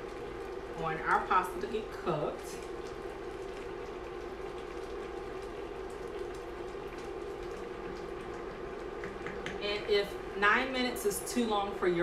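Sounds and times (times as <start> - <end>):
pasta boiling and bubbling: 0.0 - 12.0
steady hum: 0.0 - 12.0.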